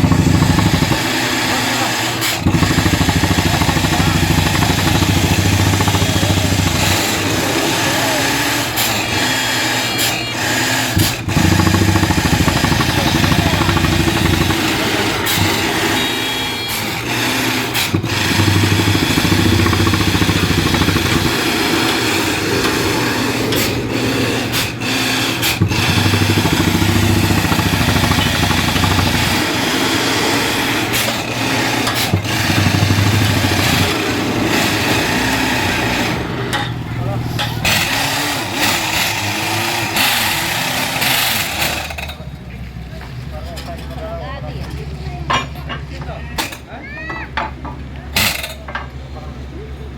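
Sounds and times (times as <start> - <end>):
drilling rig engine running hard: 0.0 - 49.9.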